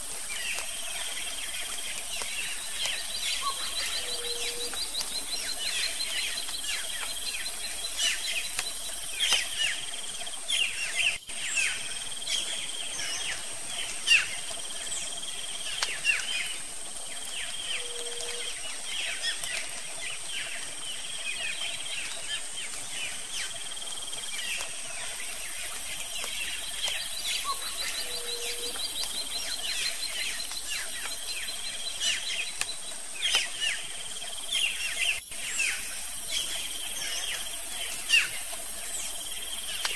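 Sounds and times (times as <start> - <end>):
high insect drone: 0.0 - 19.4, 20.0 - 39.9
birds chirping: 0.0 - 39.9.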